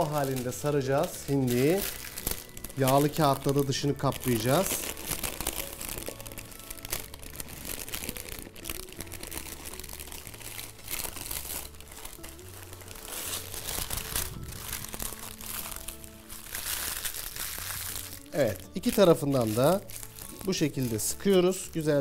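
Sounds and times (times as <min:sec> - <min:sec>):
parchment paper crinkling: 0:00.0 - 0:22.0.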